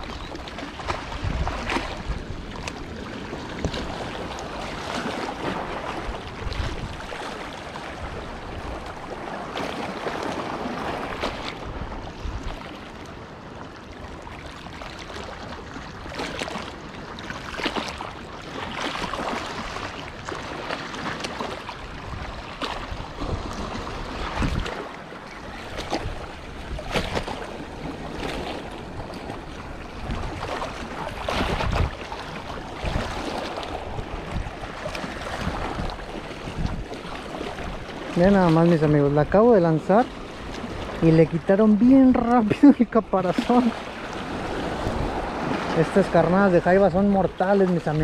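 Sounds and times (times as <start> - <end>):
wind buffeting microphone: 0.0 - 12.9, 21.8 - 48.0
sea waves washing against rocks: 0.0 - 48.0.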